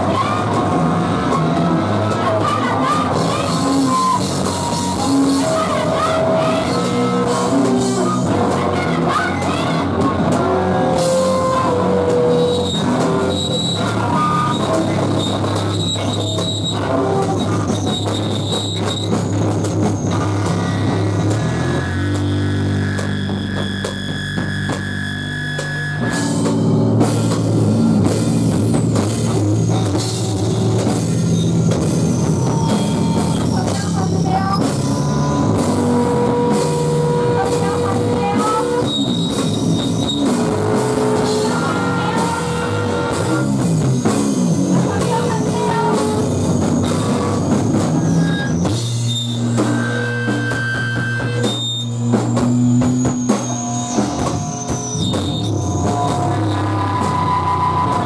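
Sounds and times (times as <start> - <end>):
live rock band: 0.0 - 58.0.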